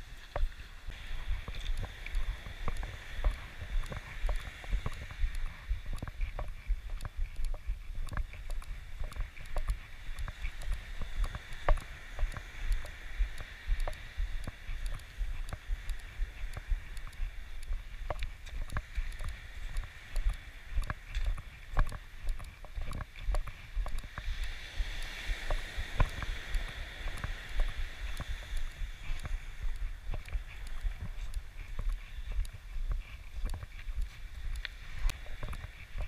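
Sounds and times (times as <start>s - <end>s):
surf washing on shore: 0.0s - 36.0s
wind rumble on microphone: 0.0s - 36.0s.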